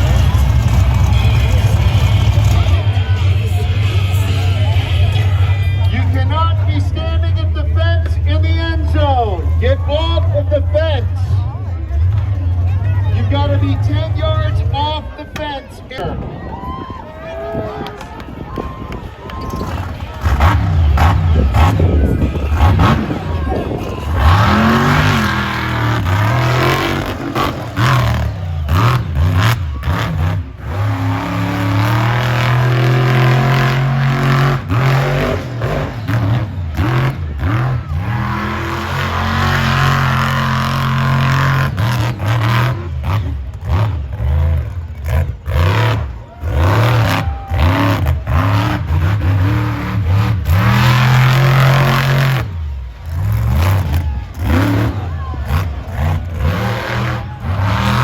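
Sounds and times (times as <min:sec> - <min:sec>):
truck engine revving hard: 0:00.0 - 0:15.1, 0:19.6 - 0:58.0.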